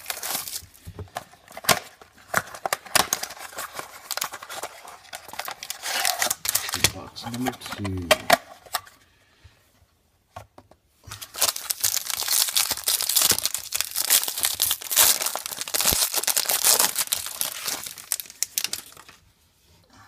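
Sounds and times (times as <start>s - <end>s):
plastic wrapping crinkling and tearing: 0.0s - 8.8s, 11.1s - 19.2s.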